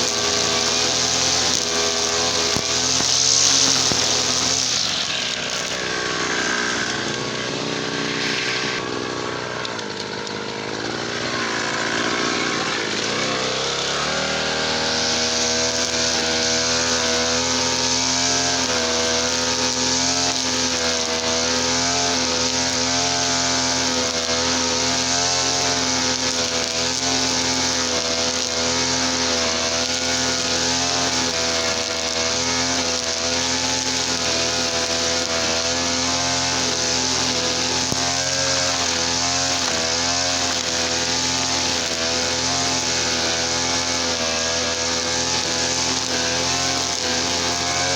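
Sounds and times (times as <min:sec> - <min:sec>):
brush cutter engine running: 0:00.0 - 0:47.9.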